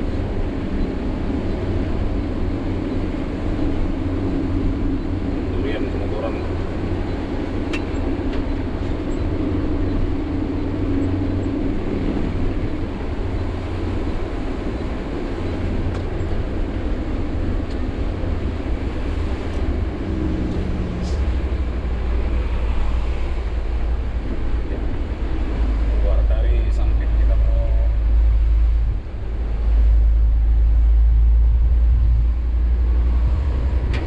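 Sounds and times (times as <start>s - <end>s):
truck diesel engine rumble: 0.0s - 34.0s.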